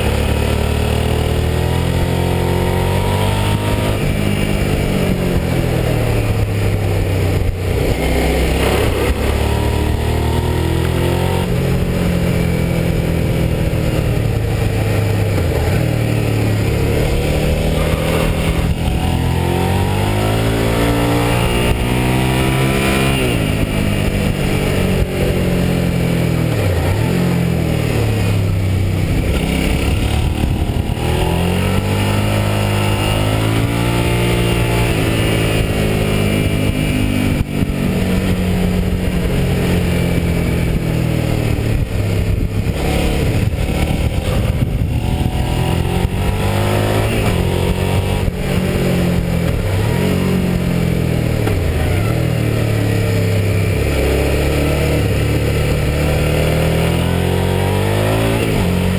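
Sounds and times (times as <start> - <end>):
motorcycle engine revving: 0.0 - 58.9
wind rush: 1.2 - 58.9.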